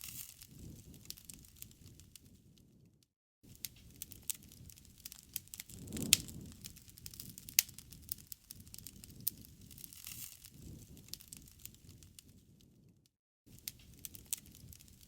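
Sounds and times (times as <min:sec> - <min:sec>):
campfire crackling and popping: 0:00.0 - 0:02.7, 0:03.5 - 0:12.9, 0:13.5 - 0:15.0
low rumble of flames: 0:00.1 - 0:13.0, 0:13.6 - 0:15.0.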